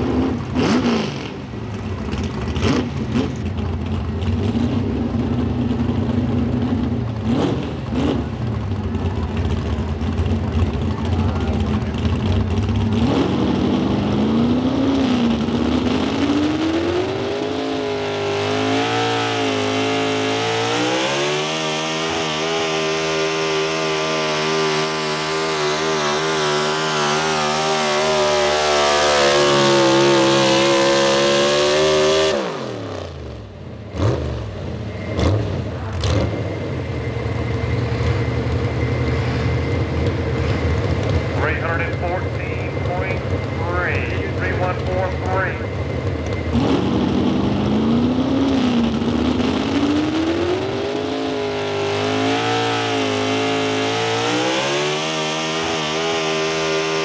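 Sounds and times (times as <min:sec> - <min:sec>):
pickup truck engine at full throttle: 0:00.0 - 0:57.0.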